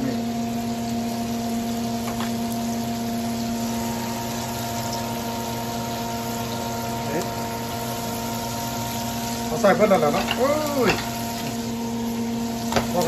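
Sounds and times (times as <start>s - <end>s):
chicken sizzling in hot oil: 0.0s - 13.0s
steady mechanical hum: 0.0s - 13.0s.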